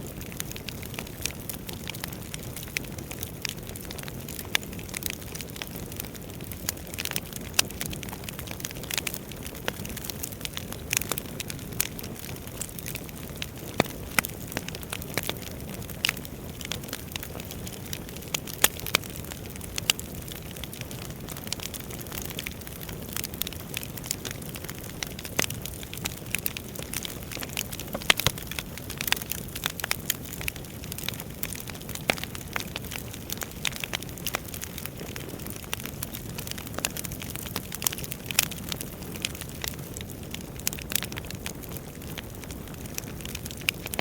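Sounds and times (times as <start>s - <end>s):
burning logs crackling and popping: 0.0s - 44.0s.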